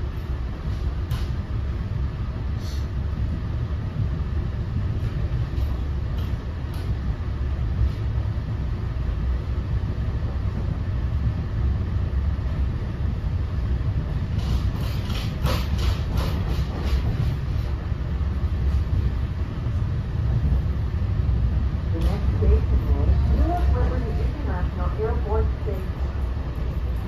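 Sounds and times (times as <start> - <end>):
low rumble of wheels on rail: 0.0 - 27.0.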